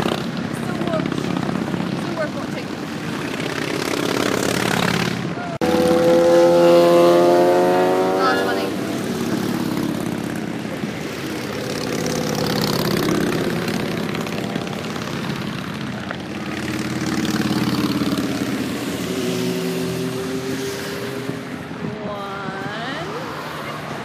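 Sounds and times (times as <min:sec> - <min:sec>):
motorcycles riding past: 0:00.0 - 0:24.0.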